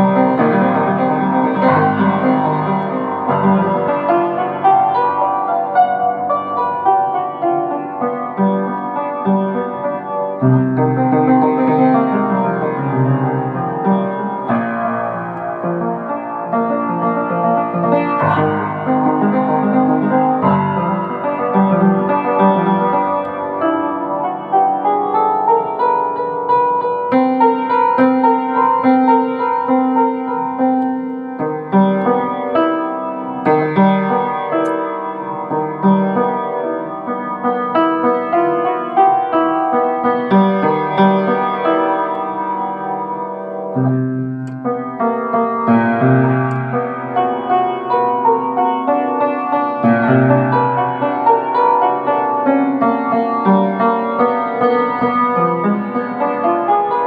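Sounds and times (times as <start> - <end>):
solo piano: 0.0 - 57.0.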